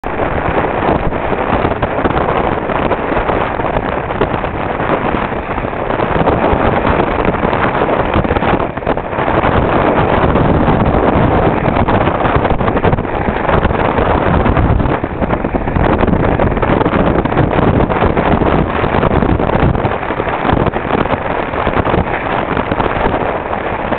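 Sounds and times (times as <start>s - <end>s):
water washing past hull: 0.0s - 23.9s
wind on microphone: 0.0s - 23.9s.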